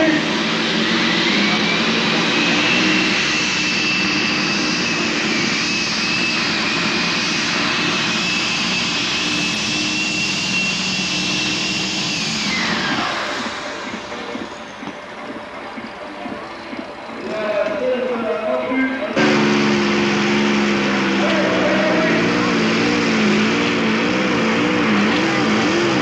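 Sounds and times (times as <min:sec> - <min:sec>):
high whine: 0:00.0 - 0:26.0
tractor engine at full power: 0:00.0 - 0:26.0.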